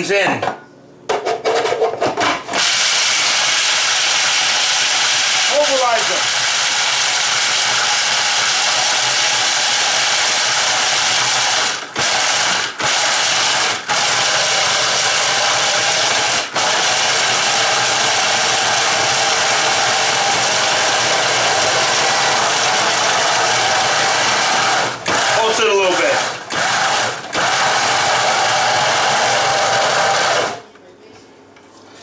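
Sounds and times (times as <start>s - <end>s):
food processor grinding: 2.4s - 30.6s.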